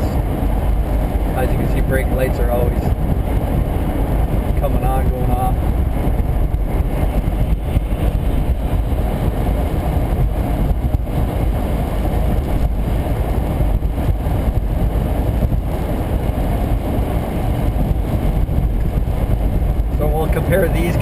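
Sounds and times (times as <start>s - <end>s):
car cabin road rumble: 0.0s - 21.0s.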